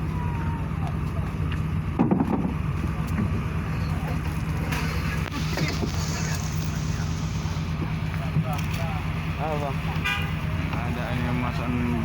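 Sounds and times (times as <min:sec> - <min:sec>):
faint voices: 0:00.0 - 0:01.7, 0:02.8 - 0:12.0
engine humming: 0:00.0 - 0:12.0.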